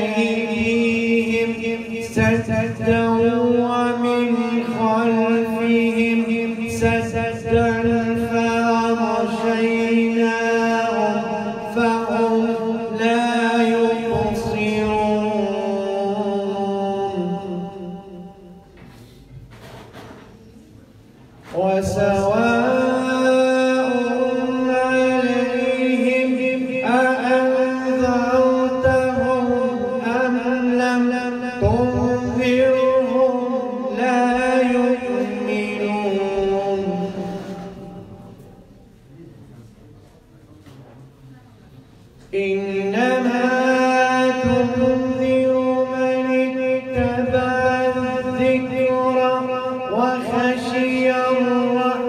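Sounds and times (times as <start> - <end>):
man chanting melodically: 0.0 - 19.0, 21.3 - 39.7, 42.1 - 52.0.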